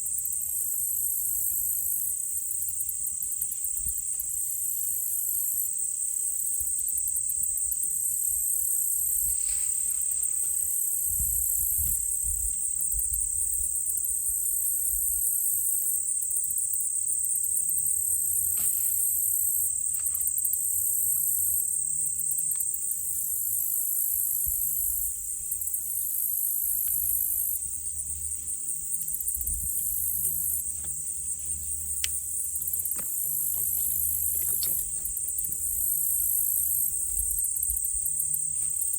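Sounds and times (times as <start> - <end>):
insects buzzing and trilling: 0.0 - 38.9.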